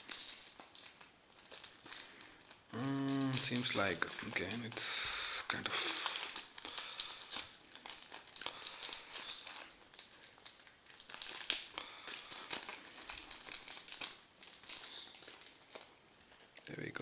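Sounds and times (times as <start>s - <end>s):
card pack wrapper crinkling and tearing: 0.0s - 17.0s.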